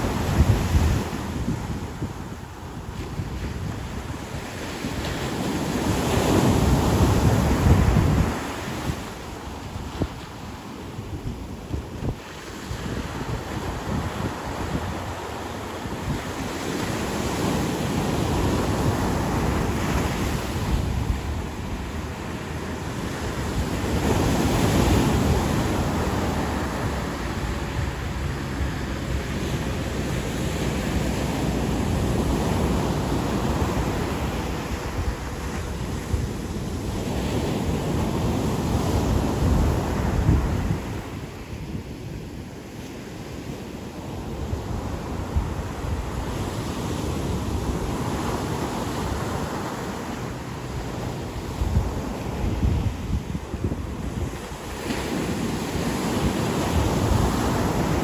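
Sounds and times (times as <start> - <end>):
ocean surf breaking on beach: 0.0 - 58.0
wind rumble on microphone: 0.0 - 58.0.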